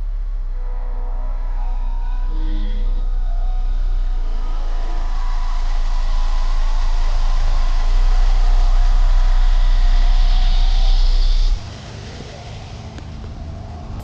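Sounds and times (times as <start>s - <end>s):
deep subwoofer bass: 0.0s - 14.0s
outdoor noise: 0.0s - 14.0s.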